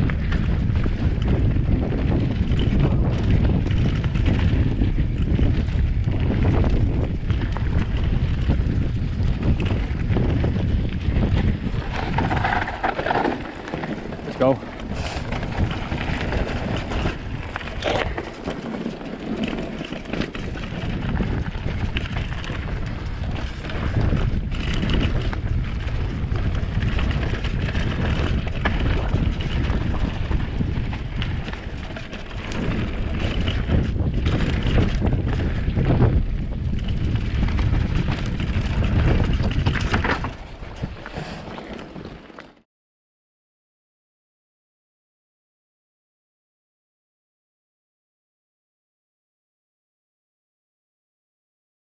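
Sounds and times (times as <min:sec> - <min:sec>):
wind rushing over microphone: 0:00.0 - 0:42.2
bike rattling over bumps: 0:00.0 - 0:42.6
tyres on dirt: 0:00.1 - 0:42.6.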